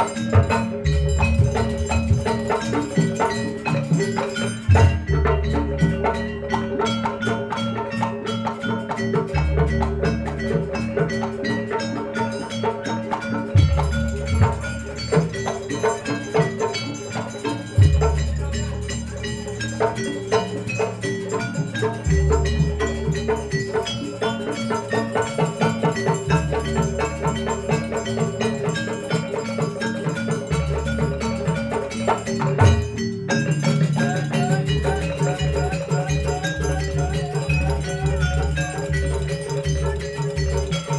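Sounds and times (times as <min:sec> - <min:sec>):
drumming: 0:00.0 - 0:40.9
metallophones ringing fast notes: 0:00.0 - 0:40.9.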